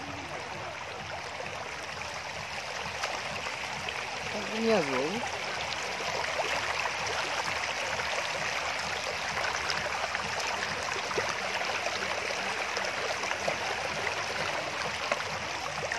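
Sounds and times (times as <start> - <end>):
river water babbling over stones: 0.0 - 15.9.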